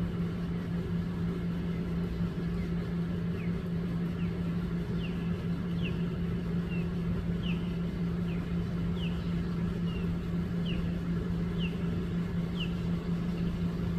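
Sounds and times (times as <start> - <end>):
steady low motor hum: 0.0 - 13.9.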